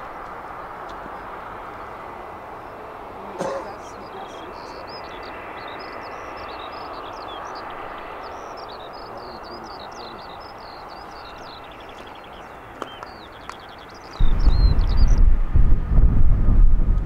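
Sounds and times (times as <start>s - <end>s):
small birds chirping: 0.5s - 15.3s.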